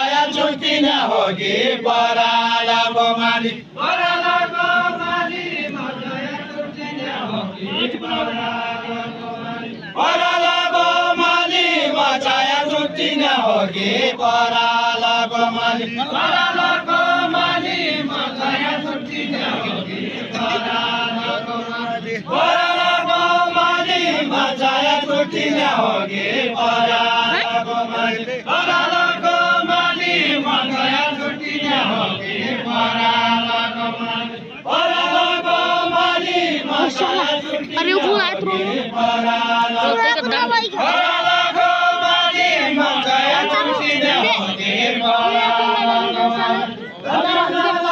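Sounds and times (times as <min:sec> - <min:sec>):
people chanting unaccompanied: 0:00.0 - 0:47.9.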